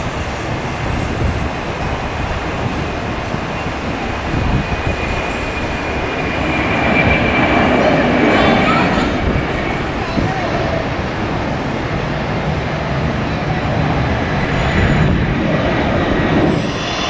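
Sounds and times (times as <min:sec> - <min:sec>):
jet engines roaring: 0:00.0 - 0:17.0
thin jet whine: 0:00.0 - 0:17.0.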